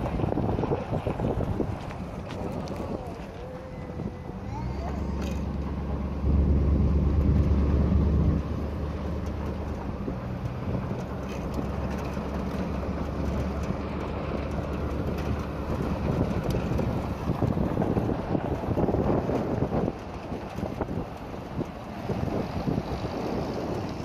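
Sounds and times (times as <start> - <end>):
engine and tyre rumble: 0.0 - 24.0
wind noise: 0.0 - 24.0.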